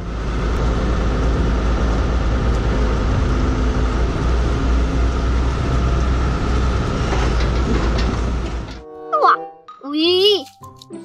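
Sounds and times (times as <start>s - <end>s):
excavator diesel engine running: 0.0s - 8.8s.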